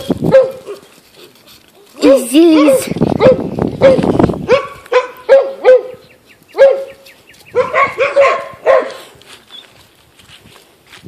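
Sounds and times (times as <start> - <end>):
puppies yipping: 0.0 - 9.8.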